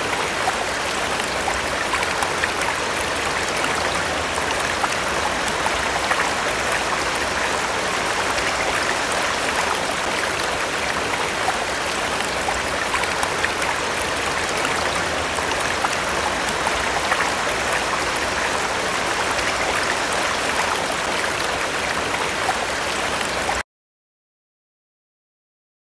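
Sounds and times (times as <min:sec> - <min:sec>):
running water rushing: 0:00.0 - 0:23.6.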